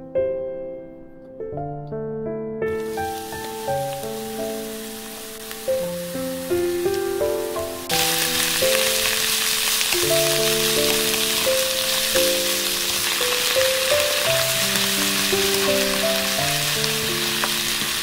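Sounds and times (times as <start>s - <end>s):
onions sizzling in oil: 2.7s - 18.0s.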